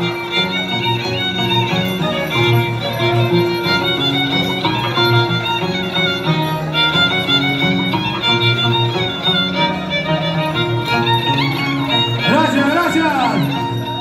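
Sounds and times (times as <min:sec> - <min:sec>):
repeating accompaniment notes: 0:00.0 - 0:14.0
violin melody: 0:00.0 - 0:14.0.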